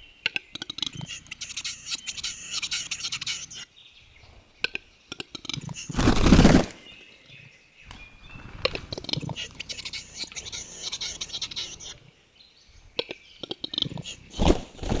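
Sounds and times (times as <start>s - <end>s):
bird hissing scraping song: 0.7s - 14.5s.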